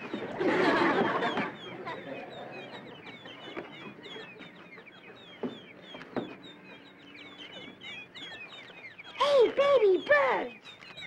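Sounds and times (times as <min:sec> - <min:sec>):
baby birds cheeping: 0:00.0 - 0:11.0.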